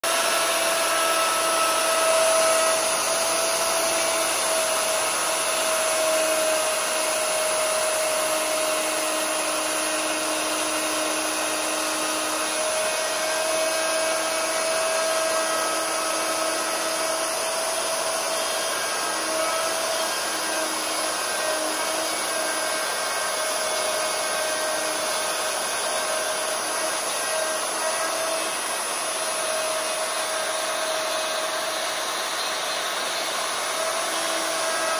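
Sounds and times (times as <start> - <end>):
router whining cutting wood: 0.0 - 34.9.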